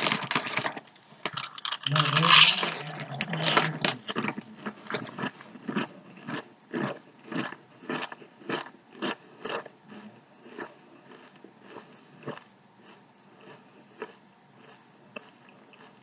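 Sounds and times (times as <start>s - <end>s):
chips crunching while chewing: 0.0s - 16.0s.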